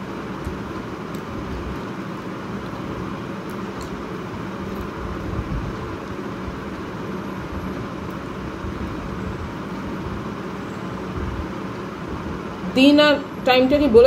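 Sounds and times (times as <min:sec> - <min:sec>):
steady background rumble and hiss: 0:00.0 - 0:14.0.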